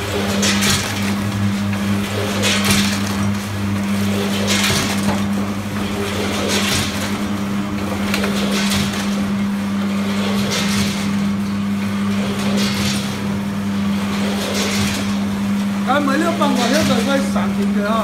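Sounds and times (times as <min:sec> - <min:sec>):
machine electric hum: 0:00.0 - 0:18.0.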